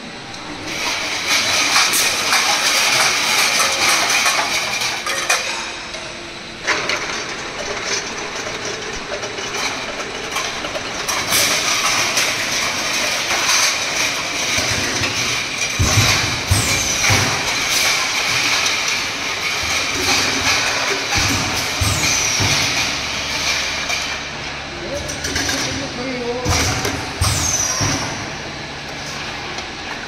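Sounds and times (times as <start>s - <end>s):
machinery whirring: 0.0s - 30.0s.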